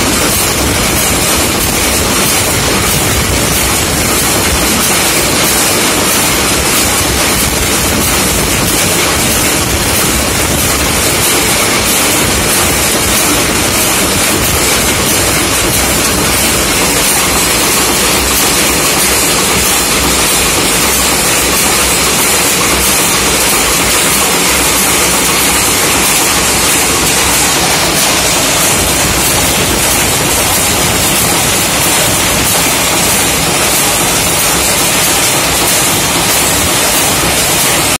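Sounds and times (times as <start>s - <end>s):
machines metallic clatter: 0.0s - 38.0s.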